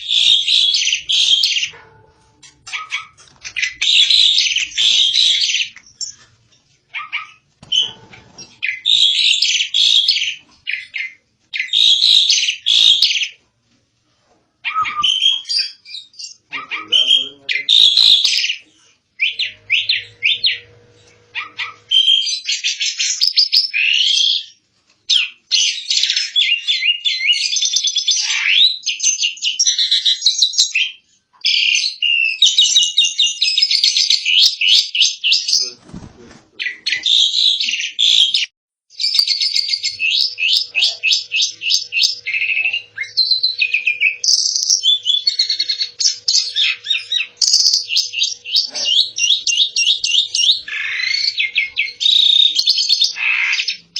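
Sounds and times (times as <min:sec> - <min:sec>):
starling singing high chattering notes: 0:00.0 - 0:06.3, 0:07.0 - 0:13.4, 0:14.6 - 0:34.6, 0:36.6 - 0:53.9.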